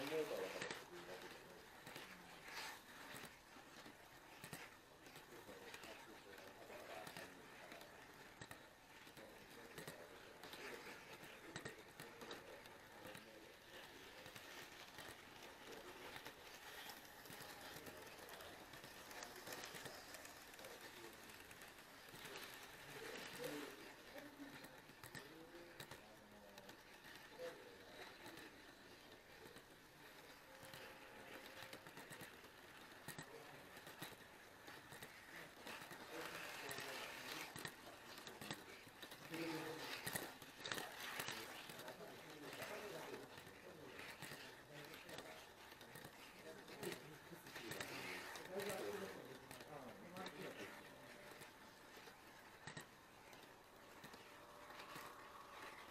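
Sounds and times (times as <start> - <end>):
model train rolling on track: 0.0 - 55.9
quiet hall background: 0.0 - 55.9
wheels clicking on rails: 0.0 - 55.9.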